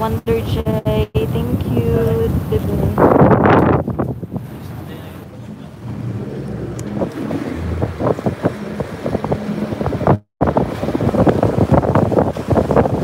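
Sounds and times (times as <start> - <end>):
boat engine hum: 0.0 - 13.0
wind buffeting microphone: 0.0 - 13.0.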